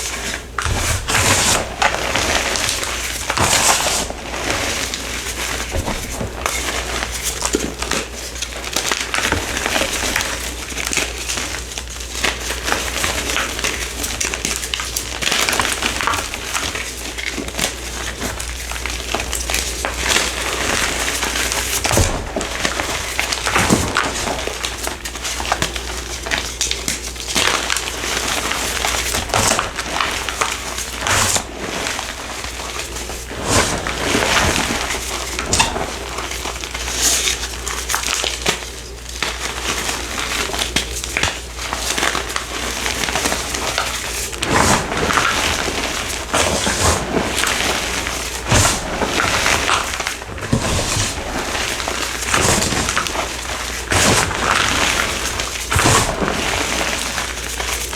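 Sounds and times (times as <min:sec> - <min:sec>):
dry block being crushed: 0:00.3 - 0:57.9.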